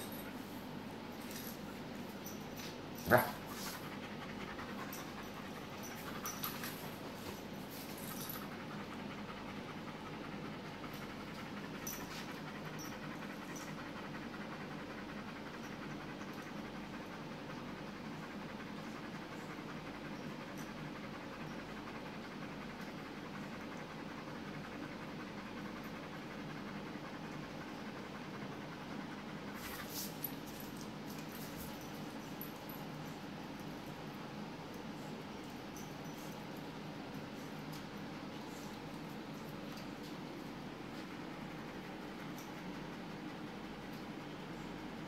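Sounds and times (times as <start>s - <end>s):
dog panting: 0.0s - 45.0s.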